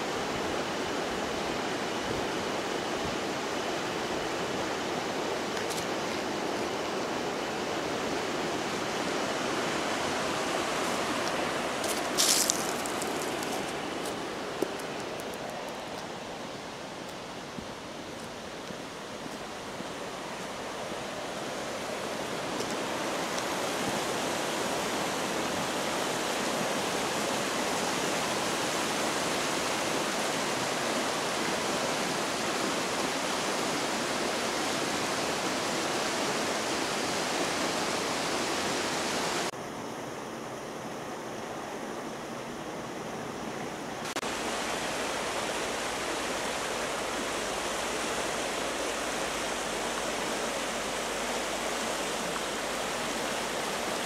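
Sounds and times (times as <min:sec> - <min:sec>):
river rushing over stones: 0:00.0 - 0:39.5, 0:41.0 - 0:54.0.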